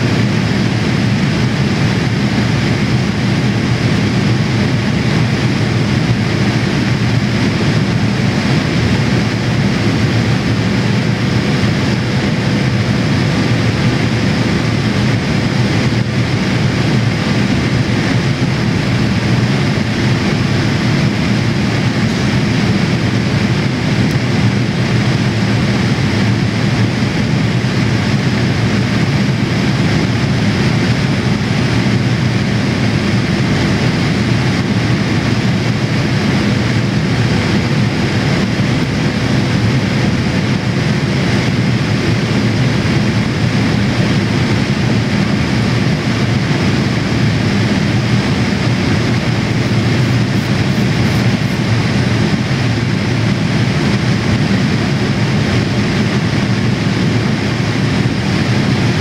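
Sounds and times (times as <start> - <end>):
aircraft cabin engine rush: 0.0 - 59.0
faint steady hum: 0.0 - 59.0.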